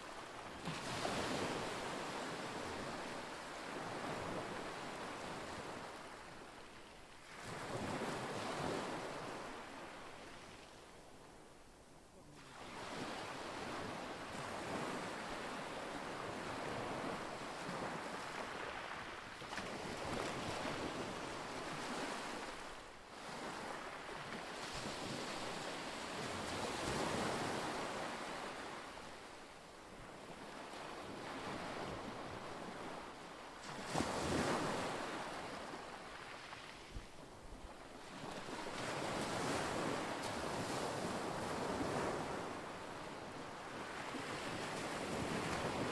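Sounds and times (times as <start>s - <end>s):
wind: 0.0s - 45.9s.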